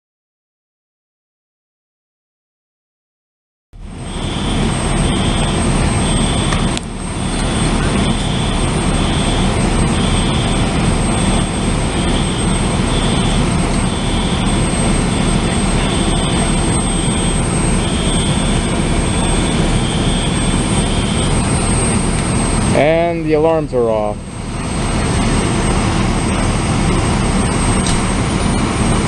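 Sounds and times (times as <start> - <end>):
fire alarm blaring: 3.8 - 29.0
high pulsing beeps: 3.8 - 29.0.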